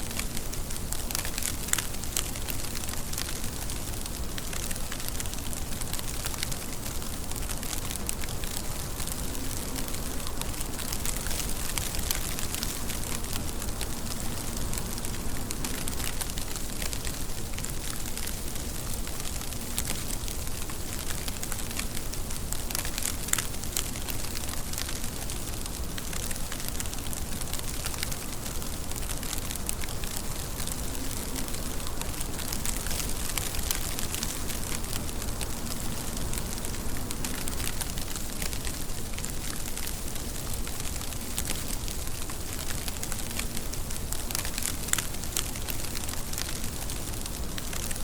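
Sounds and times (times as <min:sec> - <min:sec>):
steady rain: 0:00.0 - 0:48.0.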